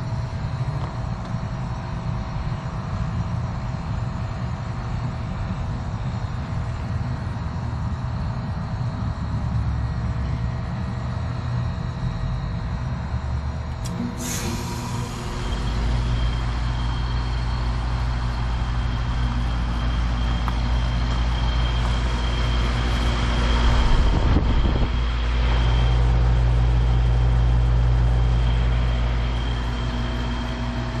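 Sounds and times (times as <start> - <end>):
faint high whine: 0.0 - 31.0
heat pump humming: 0.0 - 31.0.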